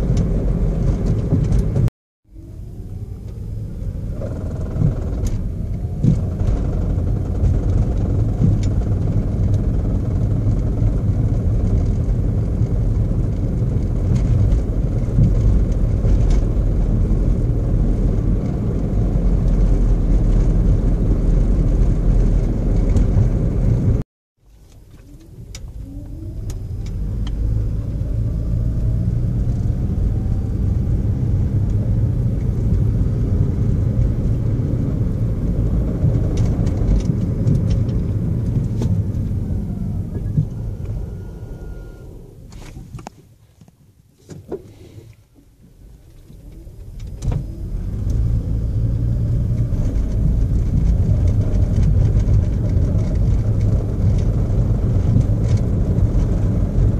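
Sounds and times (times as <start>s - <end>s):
car driving low rumble: 0.0s - 56.9s.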